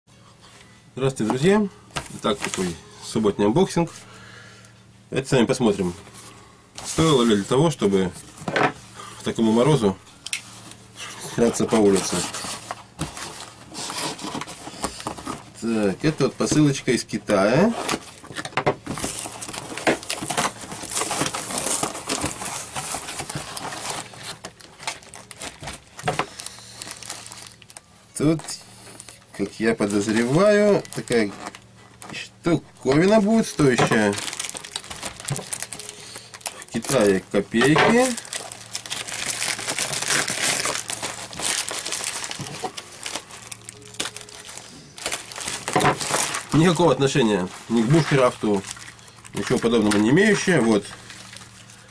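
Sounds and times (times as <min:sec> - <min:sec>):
packaging crinkling and rustling: 0:01.2 - 0:02.8, 0:05.6 - 0:51.9.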